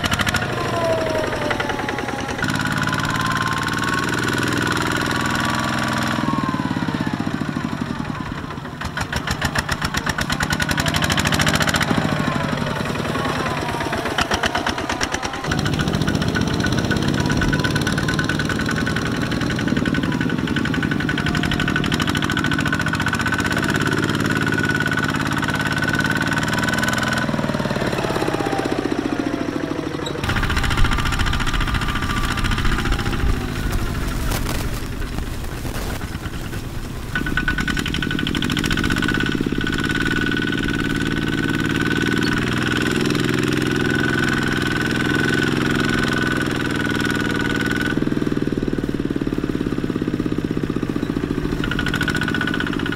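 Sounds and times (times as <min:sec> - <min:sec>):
diesel tractor engine chugging: 0:00.0 - 0:52.9
engine knocks: 0:00.0 - 0:52.9.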